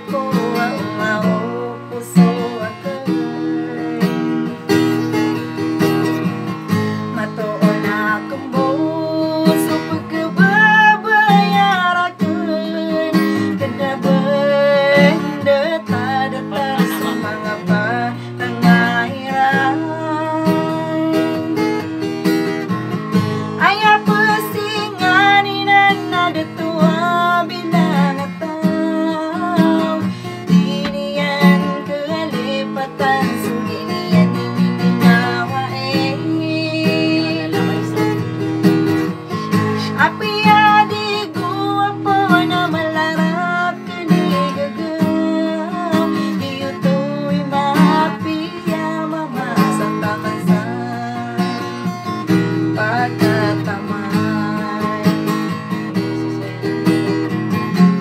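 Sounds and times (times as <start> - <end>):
acoustic guitar strumming: 0.0 - 58.0
woman singing: 0.0 - 58.0.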